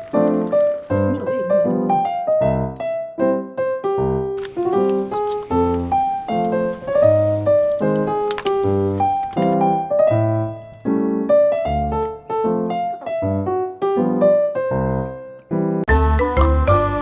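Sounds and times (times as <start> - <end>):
bouncy electric piano melody: 0.0 - 17.0.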